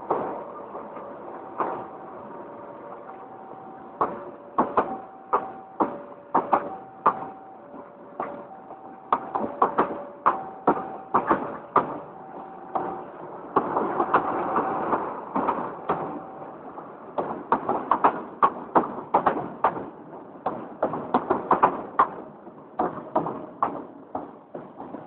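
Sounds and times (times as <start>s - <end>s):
train rushing: 0.0s - 25.0s
train wheels clacking over joints: 2.9s - 25.0s.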